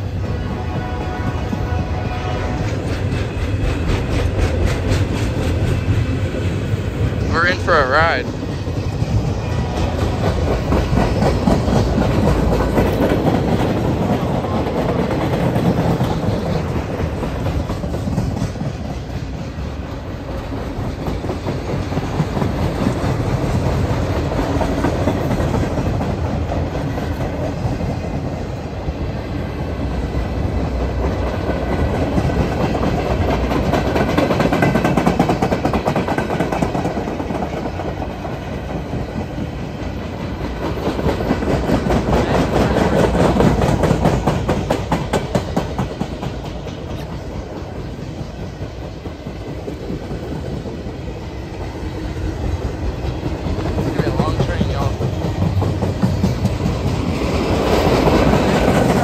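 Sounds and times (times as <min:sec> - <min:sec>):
train rumble: 0:00.0 - 0:59.0
wheels clacking over rail joints: 0:00.0 - 0:59.0.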